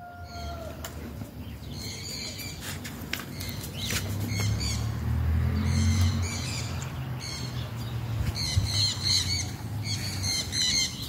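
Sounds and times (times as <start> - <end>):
birds giving harsh calls: 0.0 - 11.0.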